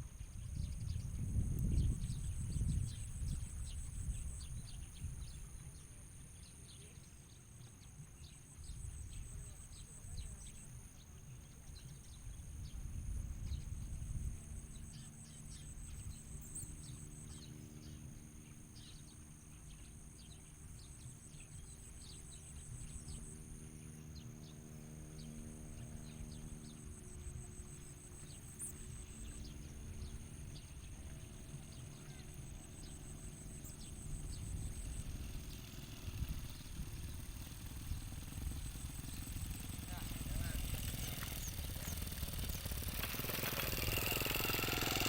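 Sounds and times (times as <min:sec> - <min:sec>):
low steady rumble: 0:00.0 - 0:06.9, 0:08.2 - 0:45.0
faint hum: 0:00.0 - 0:45.0.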